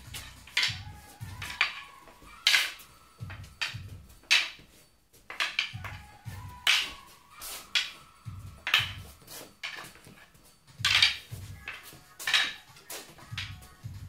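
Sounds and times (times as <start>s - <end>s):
sticks clacking together: 0.0s - 13.9s.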